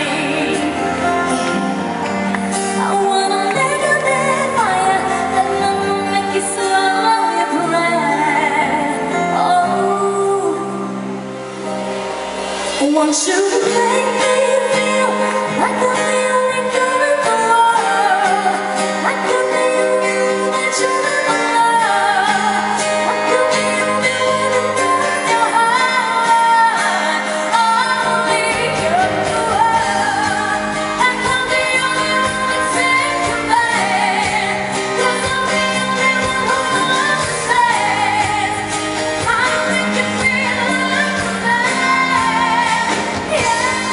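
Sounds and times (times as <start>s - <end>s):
woman singing pop song: 0.0s - 11.8s, 12.6s - 43.9s
loud backing music: 0.0s - 43.9s.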